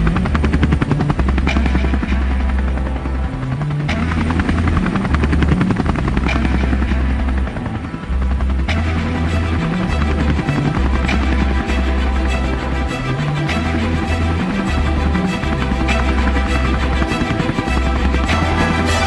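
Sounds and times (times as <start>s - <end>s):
fast pulsing rhythm: 0.0s - 19.0s
synth bass line: 0.0s - 19.0s.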